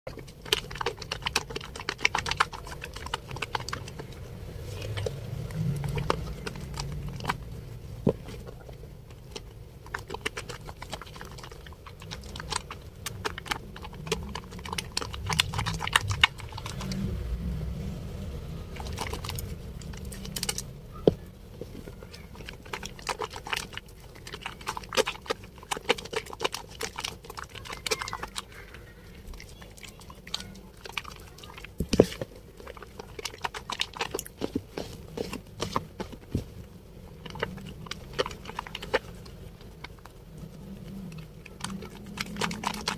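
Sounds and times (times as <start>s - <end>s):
wet soap being lathered: 0.1s - 42.9s.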